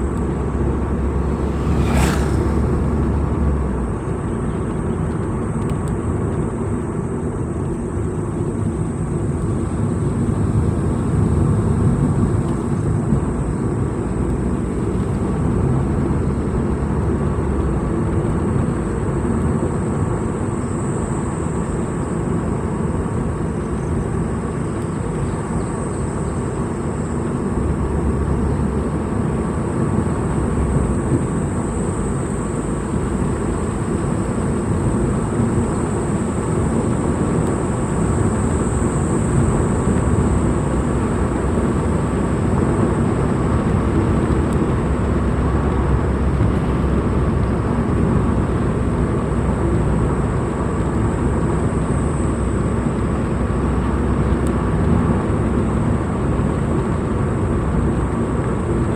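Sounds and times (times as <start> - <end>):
vehicle engine and road noise: 0.0 - 58.9.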